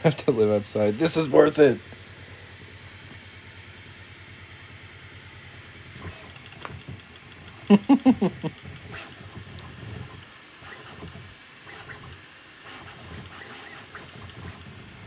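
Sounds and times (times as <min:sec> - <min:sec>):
printer motors humming: 0:00.0 - 0:15.0.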